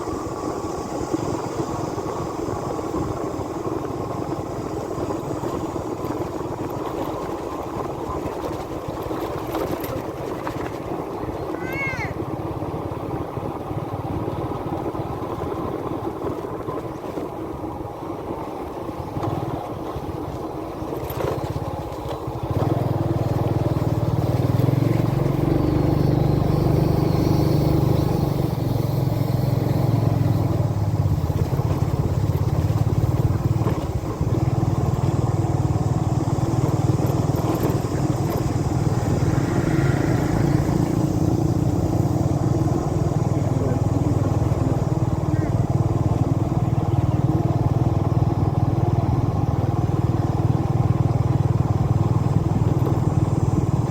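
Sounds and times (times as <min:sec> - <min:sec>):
motorbike engine running: 0:00.0 - 0:53.9.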